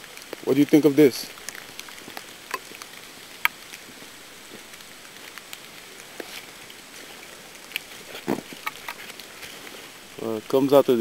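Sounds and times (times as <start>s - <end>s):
close raindrop hits: 0.0s - 11.0s
steady rain on woodland: 0.0s - 11.0s.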